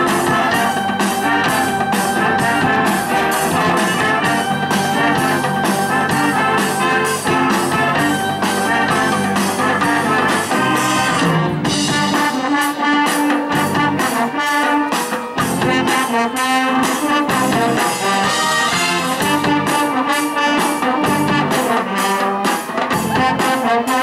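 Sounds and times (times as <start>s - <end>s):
brass band playing rock: 0.0s - 24.0s.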